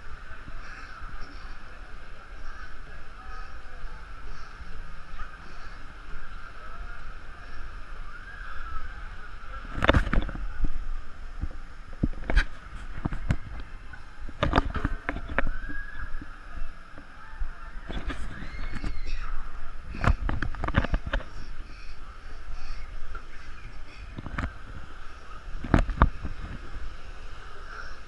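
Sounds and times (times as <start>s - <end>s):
dull steady hiss: 0.0s - 28.0s.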